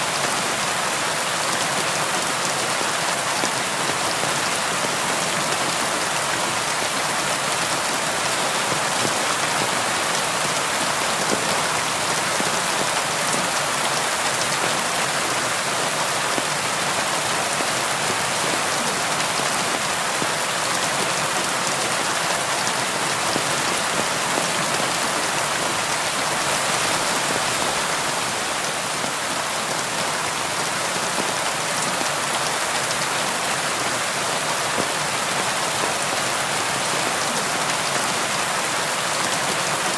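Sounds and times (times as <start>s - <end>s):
rain on a window: 0.1s - 39.9s.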